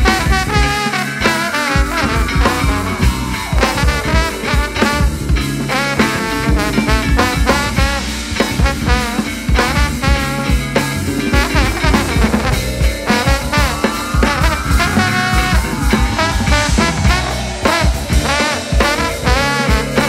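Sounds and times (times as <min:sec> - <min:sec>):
jazz fusion band playing: 0:00.0 - 0:20.0
drum hits: 0:01.5 - 0:20.0.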